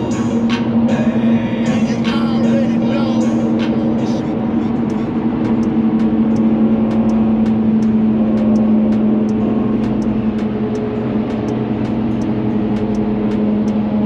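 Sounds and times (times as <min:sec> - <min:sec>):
truck engine and road drone: 0:00.0 - 0:14.0
light ticking: 0:01.6 - 0:14.0.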